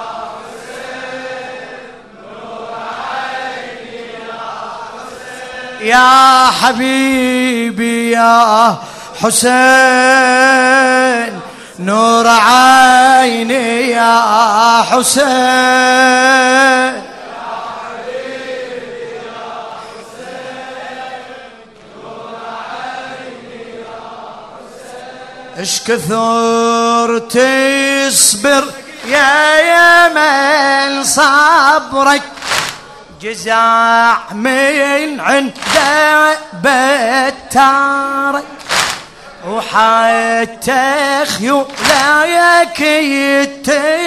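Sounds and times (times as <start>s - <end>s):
chorus of voices chanting: 0.0s - 43.9s.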